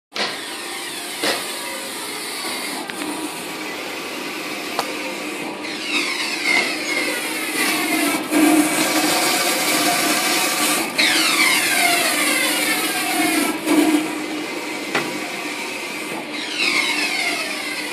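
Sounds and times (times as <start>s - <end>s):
printer running: 0.2s - 17.9s.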